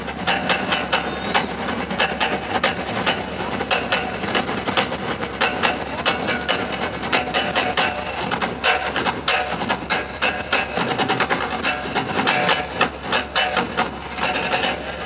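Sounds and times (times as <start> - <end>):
drummers playing fast rhythm: 0.0 - 15.0.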